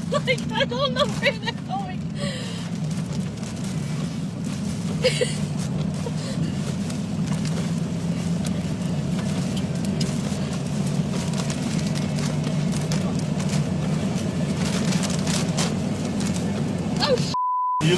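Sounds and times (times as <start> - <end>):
truck engine and road noise: 0.0 - 17.9.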